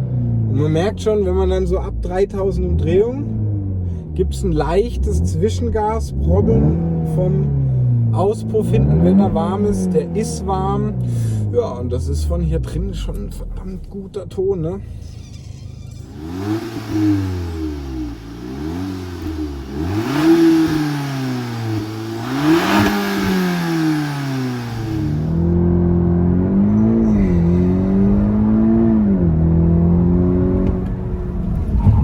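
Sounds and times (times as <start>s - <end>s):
car engine revving: 2.0s - 11.5s, 14.6s - 32.0s.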